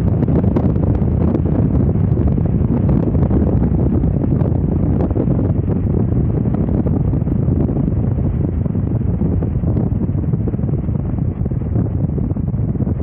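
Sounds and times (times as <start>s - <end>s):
car road noise: 0.0s - 13.0s
wind rushing over microphone: 0.0s - 13.0s.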